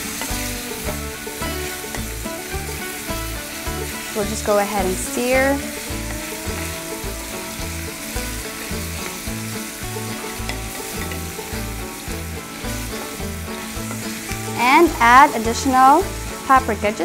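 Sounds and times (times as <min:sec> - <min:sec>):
background music with bass beat: 0:00.0 - 0:17.0
shrimp sizzling in a pan: 0:00.0 - 0:17.0.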